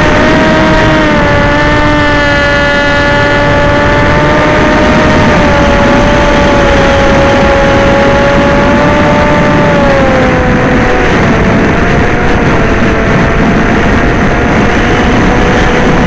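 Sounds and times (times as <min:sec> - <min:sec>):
electric motor and propellers: 0:00.0 - 0:16.0
wind rushing over microphone: 0:00.0 - 0:16.0.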